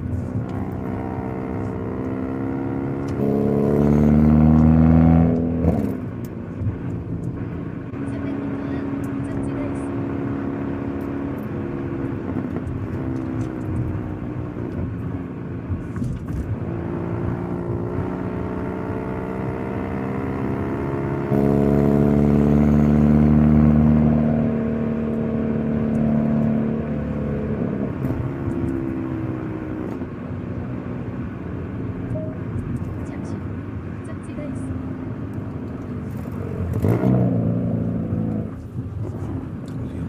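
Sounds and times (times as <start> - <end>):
car engine and exhaust accelerating: 0.0 - 40.0.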